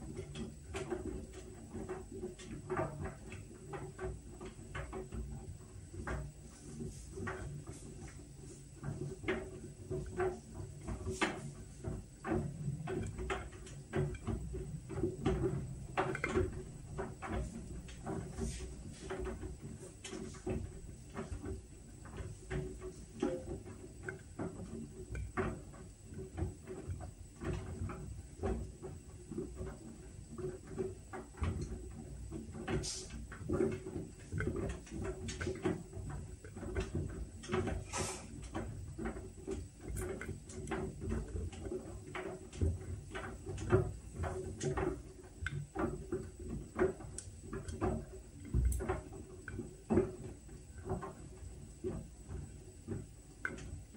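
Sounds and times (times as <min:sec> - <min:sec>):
drum clicks and knocks: 0:00.0 - 0:53.9
washing machine hum: 0:00.0 - 0:53.9.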